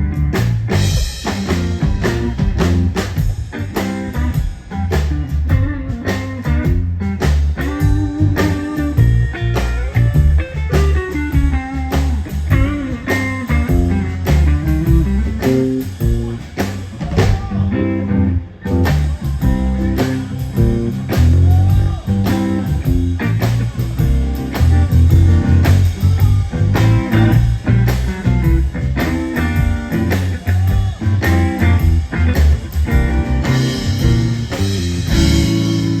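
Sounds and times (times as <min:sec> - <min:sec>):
blues-rock band playing: 0:00.0 - 0:36.0
electric guitar: 0:00.0 - 0:36.0.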